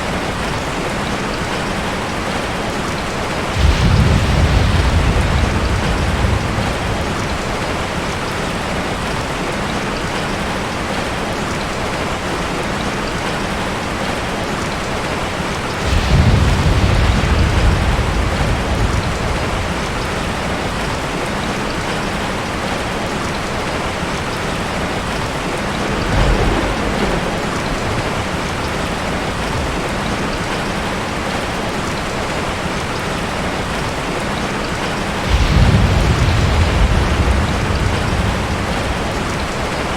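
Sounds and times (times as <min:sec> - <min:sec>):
heavy rain on a tin roof: 0:00.0 - 0:39.9
thunder rumbling: 0:01.5 - 0:09.8, 0:14.0 - 0:39.9.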